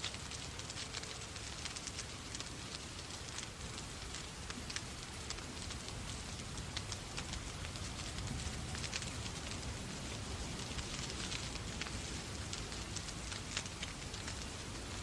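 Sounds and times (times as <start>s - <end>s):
rain hissing: 0.0s - 15.0s
wood fire crackling: 0.0s - 15.0s.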